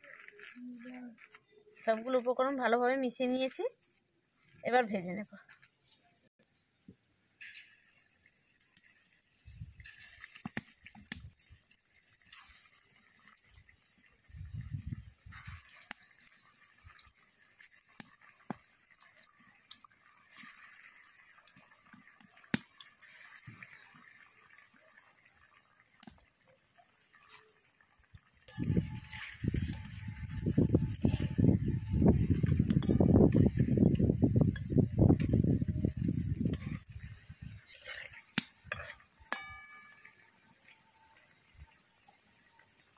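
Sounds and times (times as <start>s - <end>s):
food sizzling in hot oil: 0.0s - 5.9s, 7.3s - 42.9s.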